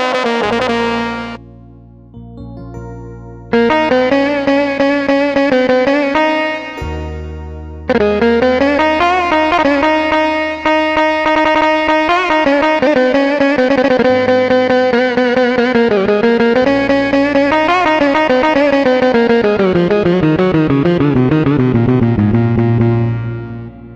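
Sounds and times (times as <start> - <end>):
held low bass note: 0.0 - 23.9
tremolo-picked string melody: 0.0 - 23.9.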